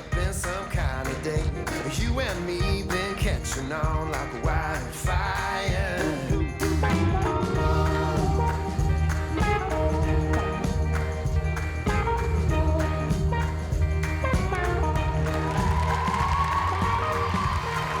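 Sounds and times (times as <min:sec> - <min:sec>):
country-pop song: 0:00.0 - 0:18.0.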